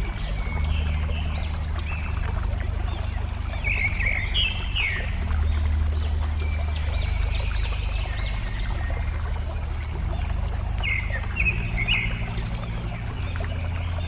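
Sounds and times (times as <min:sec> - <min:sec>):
birds singing whistled notes: 0:00.0 - 0:14.0
water babbling: 0:00.0 - 0:14.0.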